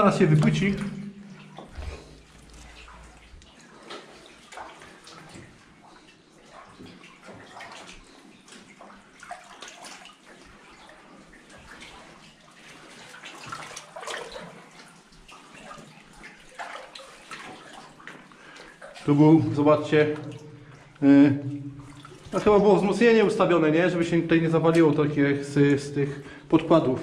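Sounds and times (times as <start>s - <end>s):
people wading through water: 0.0s - 27.0s.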